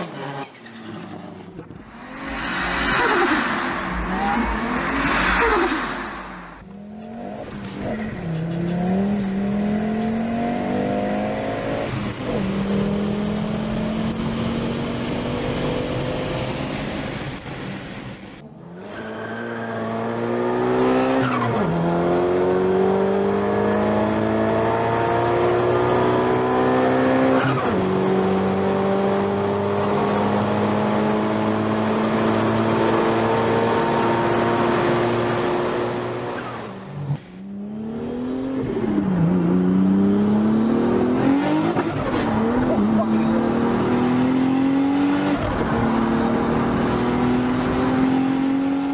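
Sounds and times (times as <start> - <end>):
turbocharged car engine accelerating: 0.0 - 48.9.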